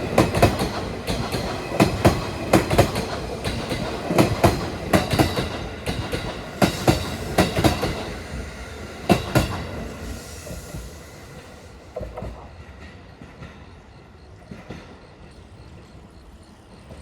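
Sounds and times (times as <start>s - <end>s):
train wheels clacking over rail joints: 0.0s - 16.2s.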